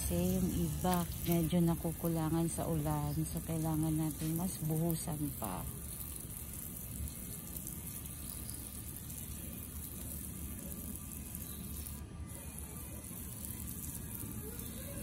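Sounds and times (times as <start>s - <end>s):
hose spray hissing: 0.0s - 15.0s
quiet background music: 0.0s - 15.0s.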